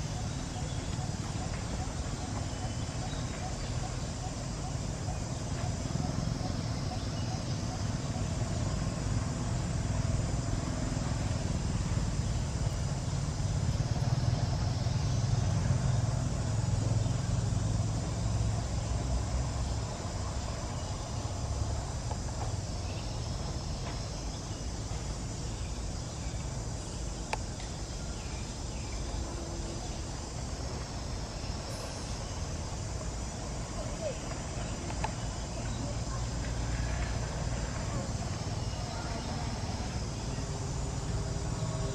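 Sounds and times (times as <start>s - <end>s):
insects buzzing: 0.0s - 41.9s.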